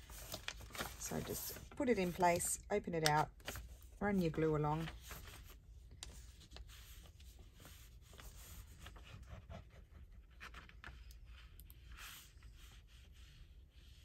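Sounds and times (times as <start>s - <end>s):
paper rustling: 0.0s - 12.6s.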